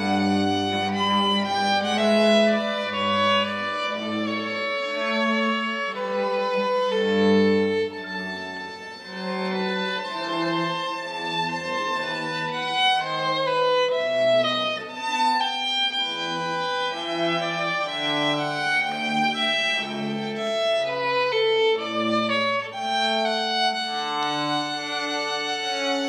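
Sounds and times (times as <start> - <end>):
bowed strings melody: 0.0 - 26.0.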